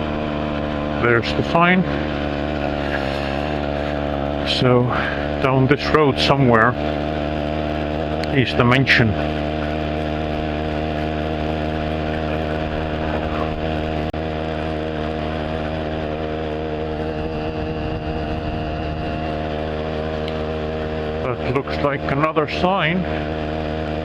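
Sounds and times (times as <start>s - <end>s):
moped two-stroke engine running: 0.0s - 24.0s.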